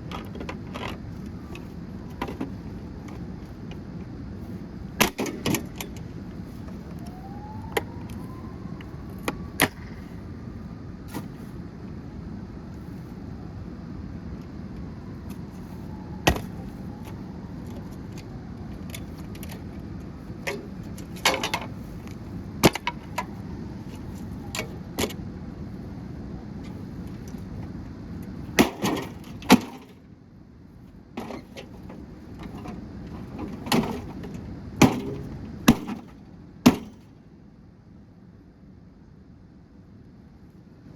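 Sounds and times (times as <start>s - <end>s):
low background rumble: 0.0s - 40.9s.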